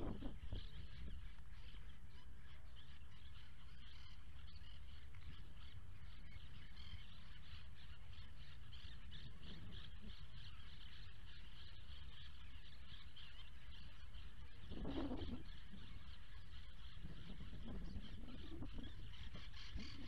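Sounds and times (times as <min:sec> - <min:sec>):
small birds chirping: 0:00.0 - 0:20.0
wind rumble on microphone: 0:00.0 - 0:20.0.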